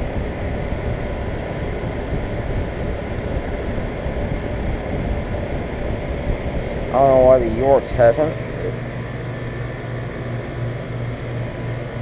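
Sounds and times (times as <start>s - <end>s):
air conditioner fan running: 0.0s - 12.0s.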